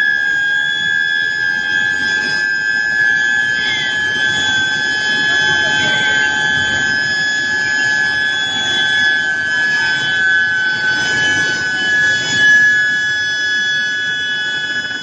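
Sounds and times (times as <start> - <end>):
high-pitched furnace whine: 0.0 - 15.0.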